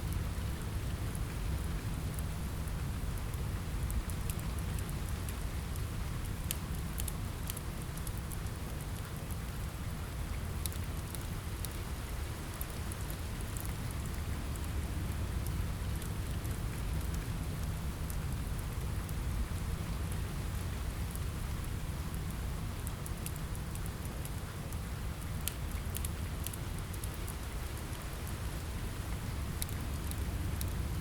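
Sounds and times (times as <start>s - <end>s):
rain on a window: 0.0s - 31.0s
sharp ticks and crackles: 0.1s - 30.9s.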